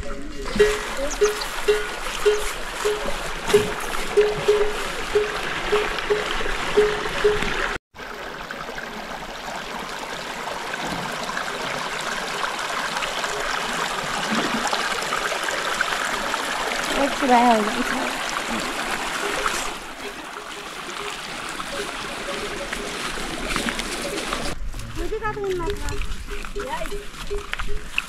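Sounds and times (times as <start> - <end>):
stream trickling over stones: 0.0 - 28.0.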